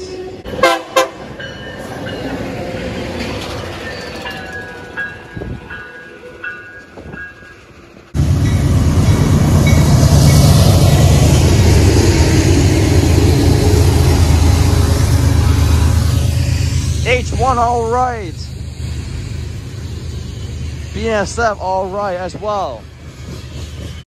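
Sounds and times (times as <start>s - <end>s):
train rolling past: 0.0s - 24.0s
locomotives rumbling: 1.2s - 24.0s.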